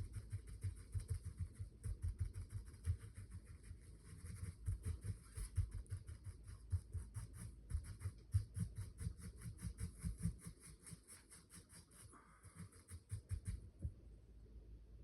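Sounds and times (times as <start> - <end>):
brush tapping on board: 0.0 - 11.9, 12.5 - 13.8.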